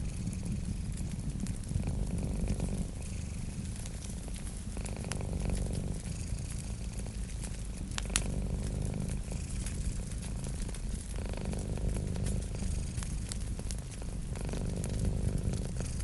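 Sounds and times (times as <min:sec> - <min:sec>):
cat purring: 0:00.0 - 0:16.0
wood fire crackling and popping: 0:00.0 - 0:16.0.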